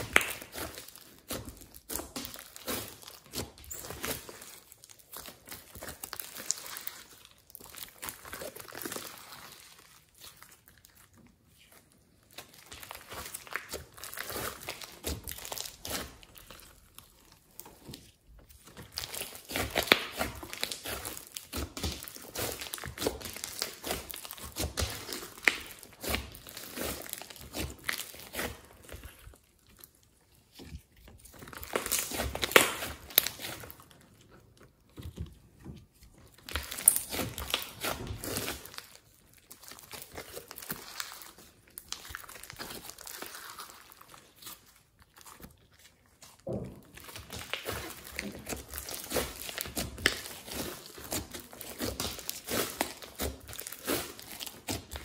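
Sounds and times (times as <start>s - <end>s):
wet slime squishing: 0.0s - 55.0s.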